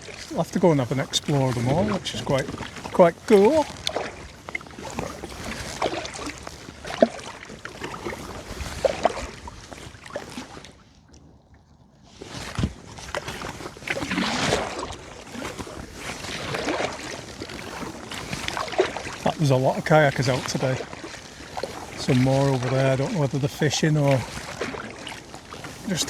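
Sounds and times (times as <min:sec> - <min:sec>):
paddle splashing in water: 0:00.0 - 0:26.0
water dripping and sloshing: 0:00.0 - 0:26.0.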